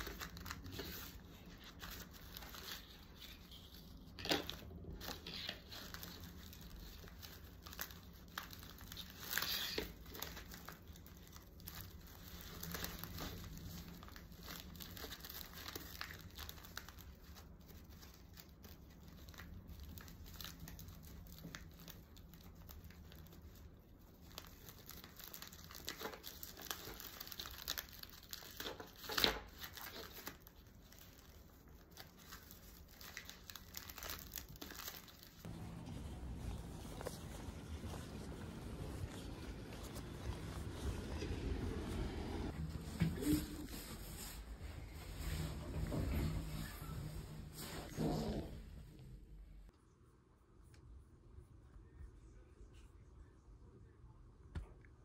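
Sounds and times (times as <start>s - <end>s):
wrapping paper rustling and crinkling: 0.0s - 48.5s.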